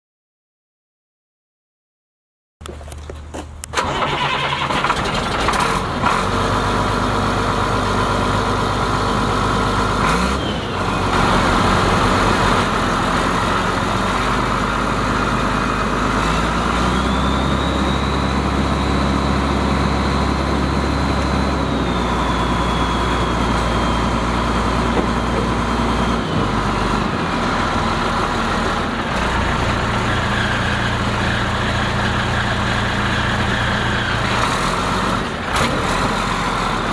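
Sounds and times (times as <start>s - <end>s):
diesel engine cranking and idling: 2.6s - 36.9s.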